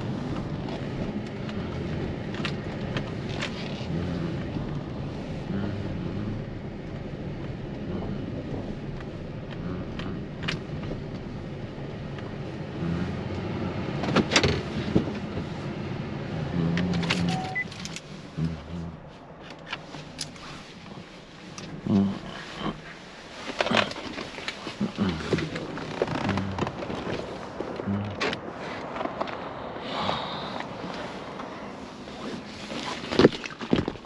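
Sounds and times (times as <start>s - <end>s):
vehicle rumbling on road: 0.0s - 34.0s.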